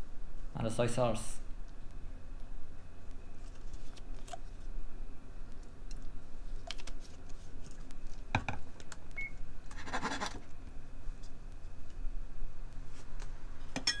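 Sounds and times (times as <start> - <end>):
induction cooktop hum: 0.0 - 14.0.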